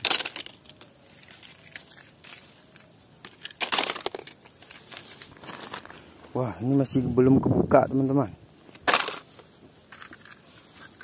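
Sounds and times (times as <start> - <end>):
leaves and dry stems rustling: 0.0 - 11.0.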